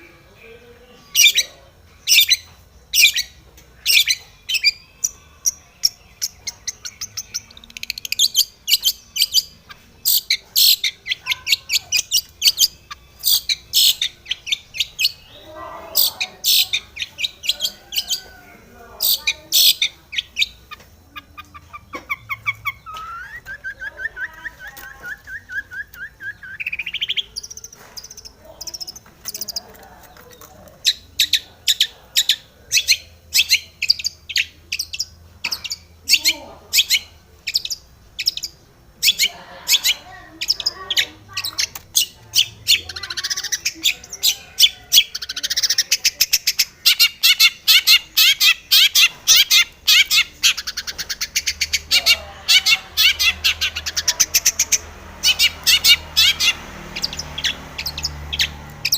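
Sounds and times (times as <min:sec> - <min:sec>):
shrike singing: 0:00.0 - 0:58.9.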